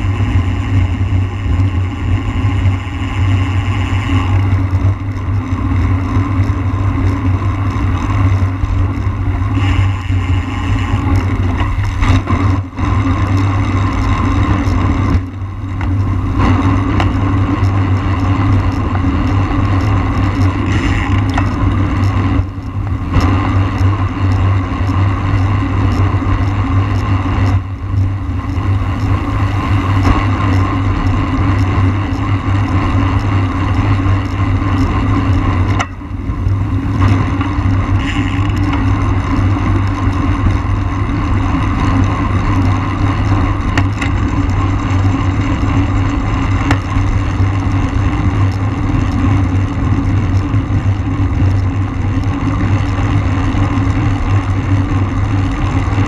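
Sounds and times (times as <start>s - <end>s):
wind rushing on microphone: 0.0s - 56.0s.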